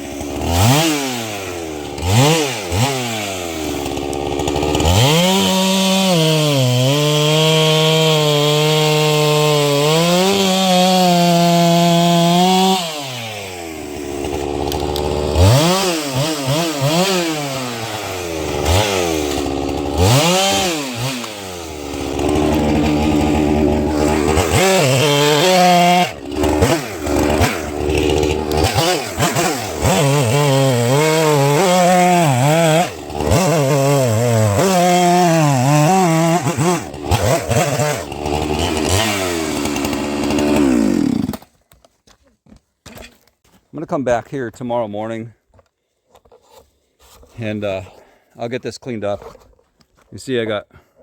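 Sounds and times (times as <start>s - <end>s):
chainsaw revving and cutting log: 0.0s - 41.5s.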